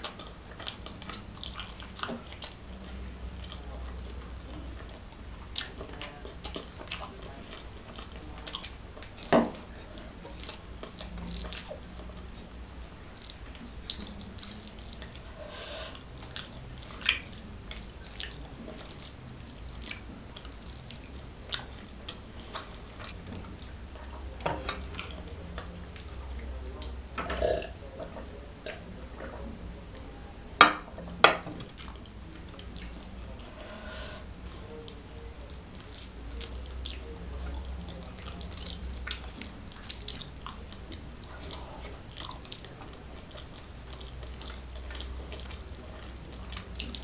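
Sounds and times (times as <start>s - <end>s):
wet chewing and mouth smacks: 0.0s - 27.6s, 31.0s - 33.6s, 34.7s - 47.0s.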